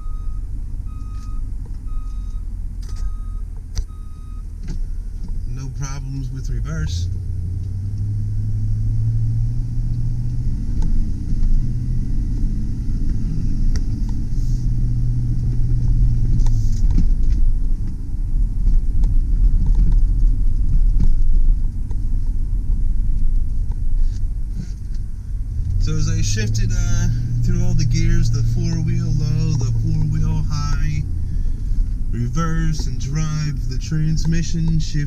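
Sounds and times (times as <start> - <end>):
pickup engine rumbling: 0.0 - 35.0.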